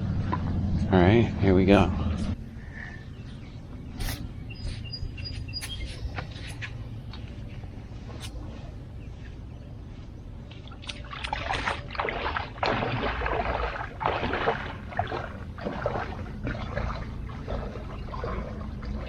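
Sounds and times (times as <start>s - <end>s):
low steady rumble: 0.0s - 19.0s
water splashing and sloshing: 0.0s - 19.0s.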